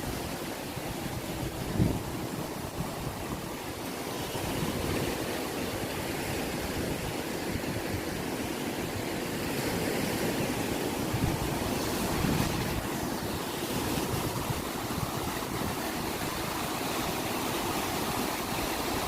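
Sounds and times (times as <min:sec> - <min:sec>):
ocean waves surf roar: 0:00.0 - 0:19.0
wind on microphone: 0:00.0 - 0:19.0.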